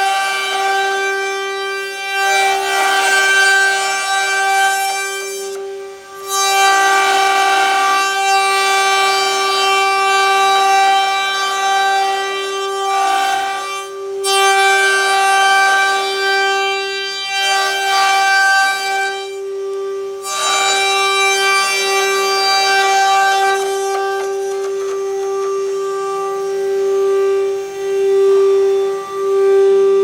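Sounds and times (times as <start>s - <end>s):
router spindles whining: 0.0s - 30.0s.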